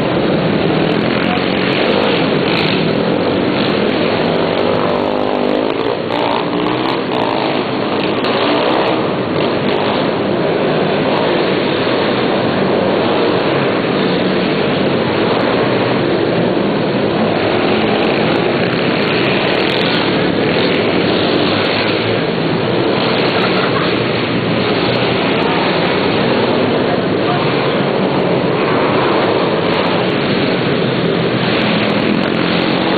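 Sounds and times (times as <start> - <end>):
pit bike engines running hard: 0.0 - 32.9.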